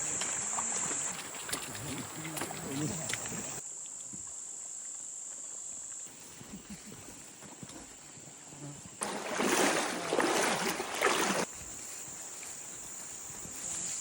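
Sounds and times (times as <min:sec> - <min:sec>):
jungle insects droning: 0:00.0 - 0:14.0.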